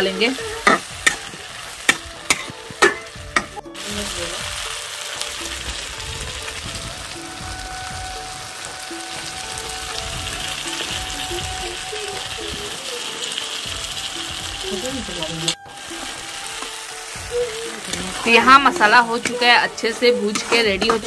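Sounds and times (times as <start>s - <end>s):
tomatoes sizzling in hot oil: 0.0s - 21.0s.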